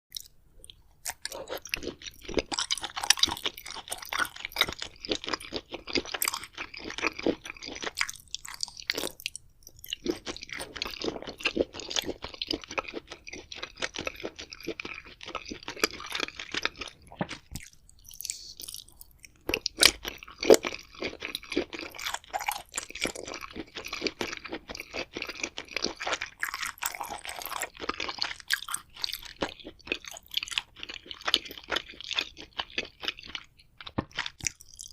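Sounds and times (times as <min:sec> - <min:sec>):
chewing crunchy food: 0:00.1 - 0:34.9.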